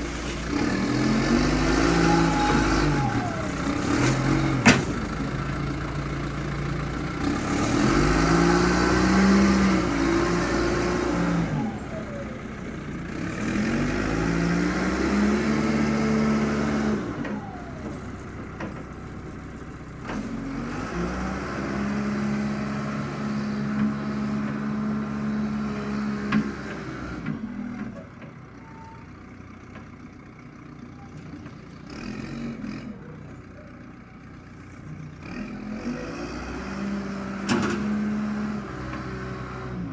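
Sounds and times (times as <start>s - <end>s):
diesel engine revving: 0.0s - 30.6s, 31.3s - 39.9s.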